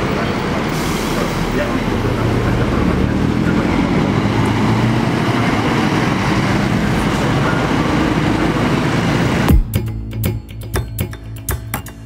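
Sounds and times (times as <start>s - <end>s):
bus diesel engine drone: 0.0s - 11.4s
car traffic: 0.0s - 12.0s.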